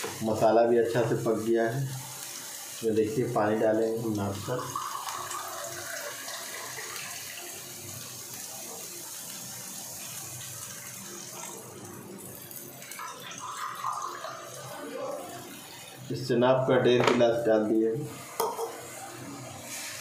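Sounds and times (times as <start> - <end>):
water pouring into frying pan: 0.0 - 16.3.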